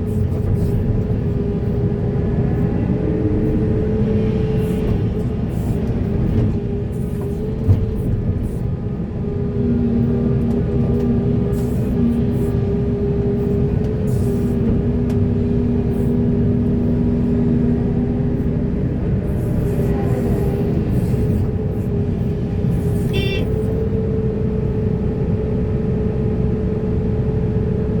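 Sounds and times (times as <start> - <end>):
heavy diesel machinery rumbling: 0.0 - 28.0.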